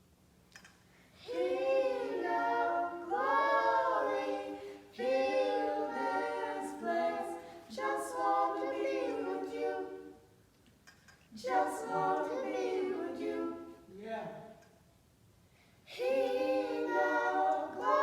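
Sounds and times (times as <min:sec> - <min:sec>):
vocal group singing a cappella: 0:01.1 - 0:10.4, 0:11.3 - 0:14.7, 0:15.8 - 0:18.0.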